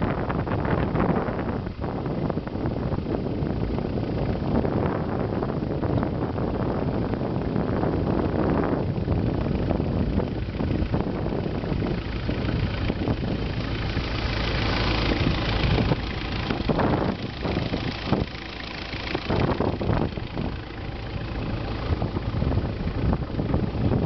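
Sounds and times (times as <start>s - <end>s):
boat engine running: 0.0s - 24.0s
wind gusting on microphone: 0.0s - 24.0s.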